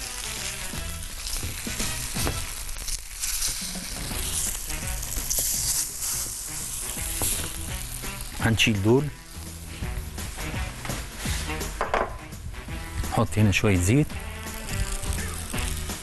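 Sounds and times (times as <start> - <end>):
bread sizzling on a griddle: 0.0 - 11.8, 14.0 - 16.0.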